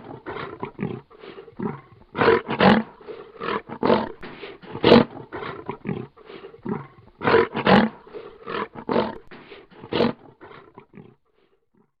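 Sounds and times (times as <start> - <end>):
lion growling in pulses: 0.0 - 11.9.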